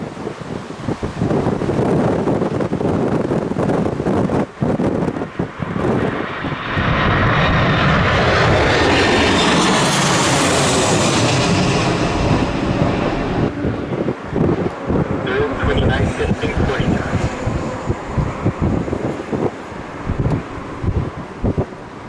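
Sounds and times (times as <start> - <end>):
jet engines passing overhead: 0.0 - 22.0
wind buffeting microphone: 0.0 - 22.0.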